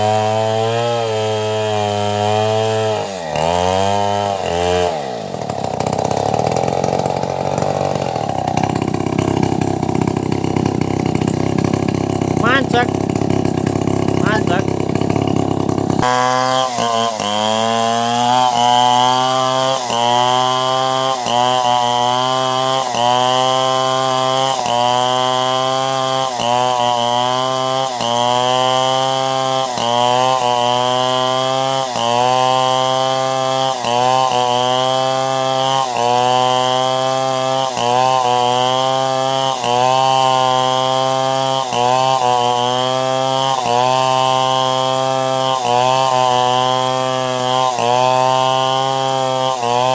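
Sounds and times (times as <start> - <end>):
chainsaw cutting log: 0.0 - 49.9.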